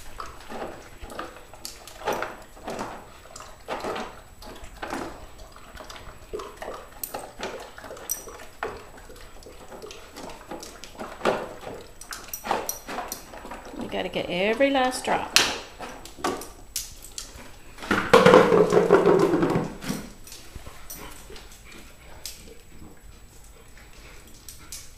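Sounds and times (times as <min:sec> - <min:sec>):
dog slurping and chewing: 0:00.0 - 0:14.5, 0:15.1 - 0:24.9.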